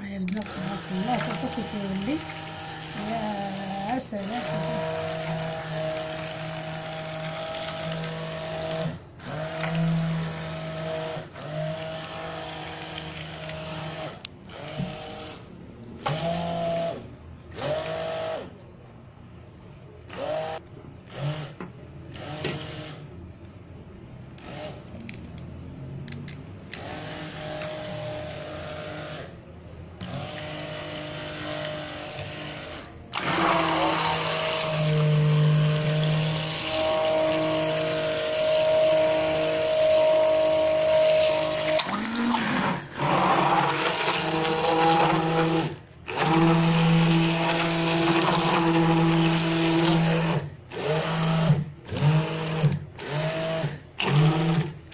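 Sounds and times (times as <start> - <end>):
stick blender motor whine: 0.3 - 18.6, 26.7 - 29.4, 30.0 - 54.9.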